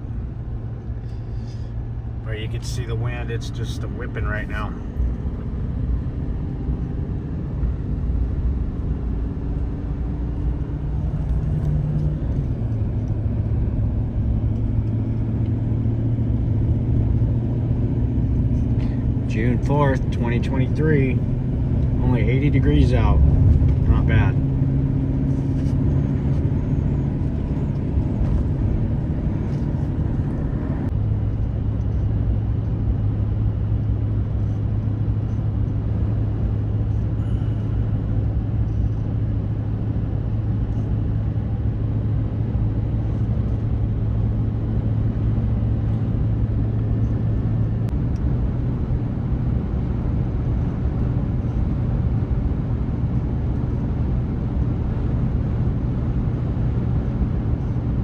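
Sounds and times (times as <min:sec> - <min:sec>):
engine hum: 0:00.0 - 0:58.0
road and tyre noise: 0:00.0 - 0:58.0.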